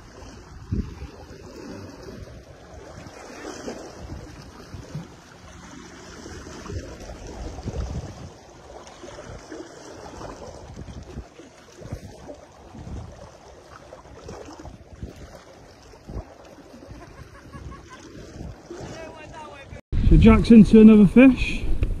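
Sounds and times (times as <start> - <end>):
sea surf: 0.0 - 22.0
wind buffeting microphone: 0.0 - 22.0.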